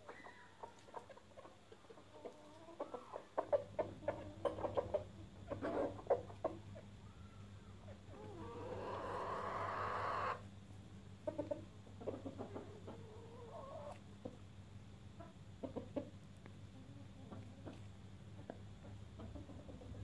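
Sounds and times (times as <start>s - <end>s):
chickens clucking softly: 0.0s - 20.0s.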